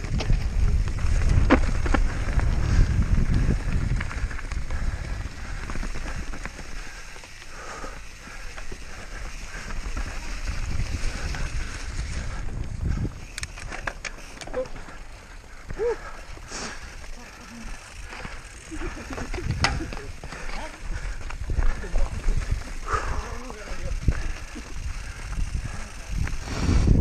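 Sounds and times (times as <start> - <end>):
bike rattling over ground: 0.0 - 27.0
wind rumbling on microphone: 0.0 - 27.0.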